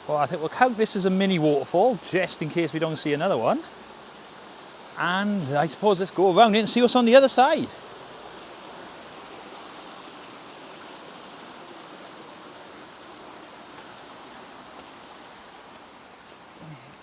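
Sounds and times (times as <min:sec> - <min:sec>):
stream pouring over waterfall: 0:00.0 - 0:17.0.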